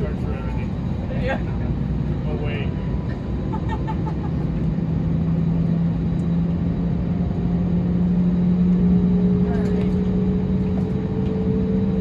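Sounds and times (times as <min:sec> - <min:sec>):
jet engine drone in cabin: 0:00.0 - 0:12.0
low hum: 0:00.0 - 0:12.0.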